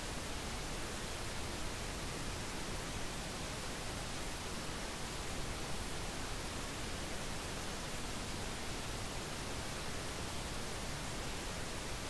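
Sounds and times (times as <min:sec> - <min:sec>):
steady white noise hiss: 0:00.0 - 0:12.0.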